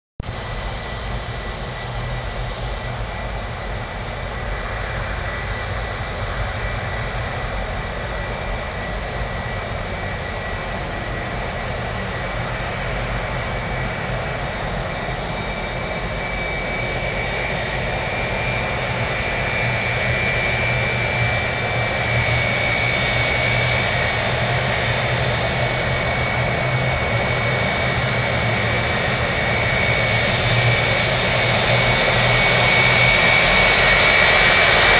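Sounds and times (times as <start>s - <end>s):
higher jet engine whine: 0.2s - 34.9s
jet engines rumbling and whining: 0.2s - 34.9s.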